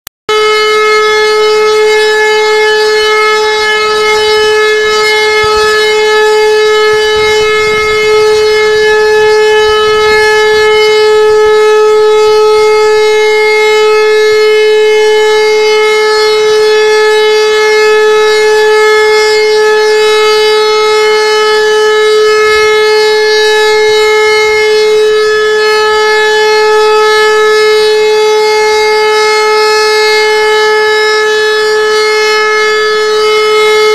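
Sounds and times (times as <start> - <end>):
siren steady continuous tone: 0.3 - 33.9.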